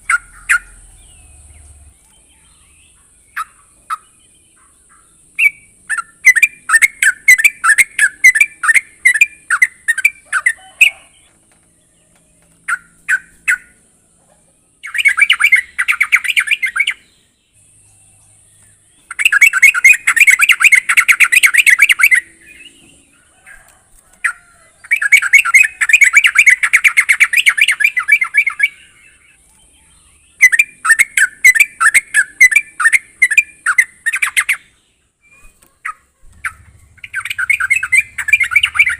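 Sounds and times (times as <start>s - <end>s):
bird chattering calls: 0.0s - 11.4s, 12.5s - 38.9s.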